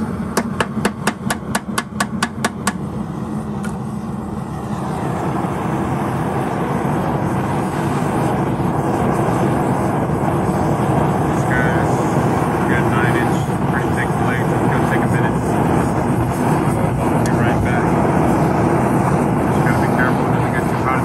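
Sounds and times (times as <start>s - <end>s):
gas forge burner roaring: 0.0s - 21.0s.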